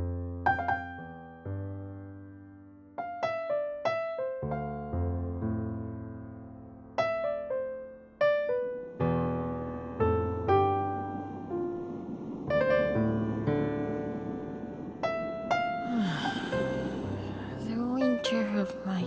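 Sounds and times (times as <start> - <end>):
low bass piano notes: 0.0 - 19.0
slow piano music: 0.0 - 19.0.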